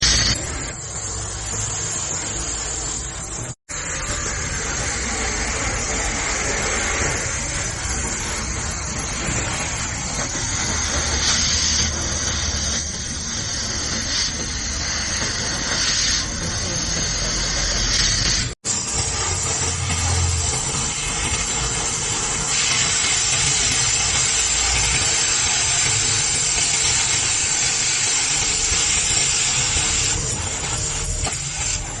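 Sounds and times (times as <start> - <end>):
welding arc crackling and hissing: 0.0 - 32.0.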